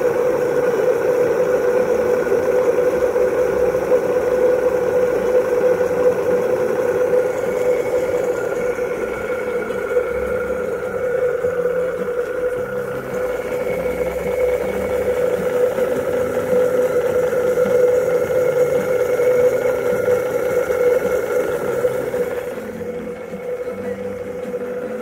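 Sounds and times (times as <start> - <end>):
steam boiler humming: 0.0 - 25.0.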